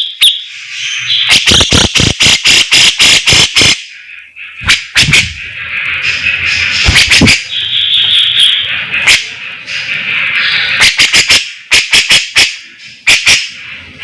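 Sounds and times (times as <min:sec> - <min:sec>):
buzzy bird chatter: 0:00.0 - 0:14.0.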